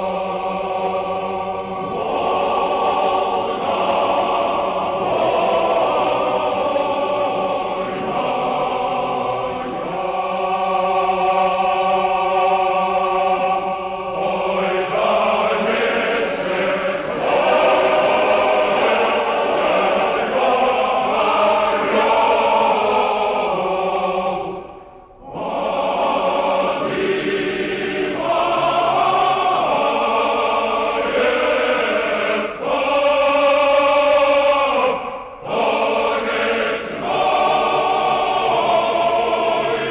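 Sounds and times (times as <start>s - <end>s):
choir singing long chords: 0.0s - 39.9s.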